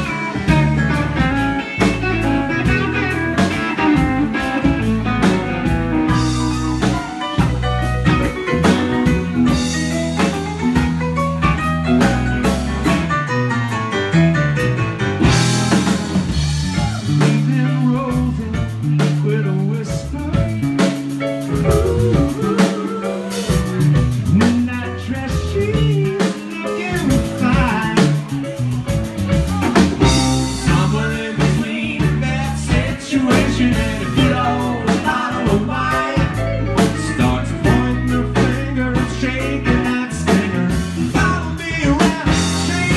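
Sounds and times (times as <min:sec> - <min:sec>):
bass line: 0:00.0 - 0:42.9
drum kit beat: 0:00.0 - 0:42.9
guitar: 0:00.0 - 0:42.9.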